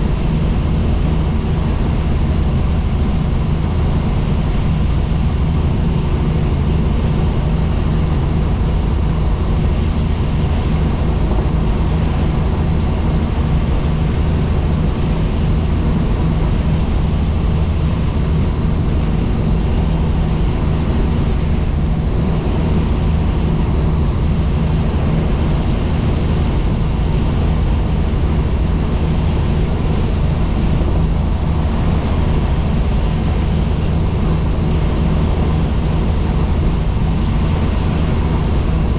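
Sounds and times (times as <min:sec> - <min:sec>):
helicopter rotor drone: 0:00.0 - 0:38.9.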